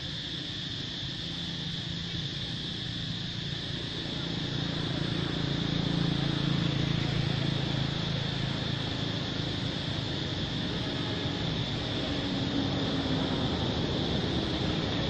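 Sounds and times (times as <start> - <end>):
high-pitched insect drone: 0.0 - 15.0
low engine hum: 0.0 - 15.0.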